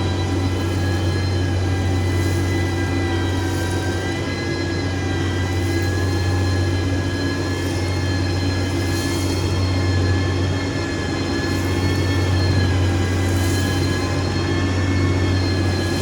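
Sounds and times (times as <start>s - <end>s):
diesel engine running under load: 0.0s - 16.0s
high whine: 0.0s - 16.0s.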